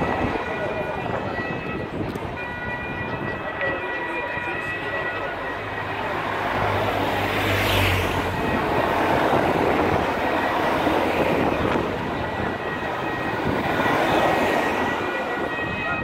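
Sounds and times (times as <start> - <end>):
passing vehicle noise: 0.0 - 16.0.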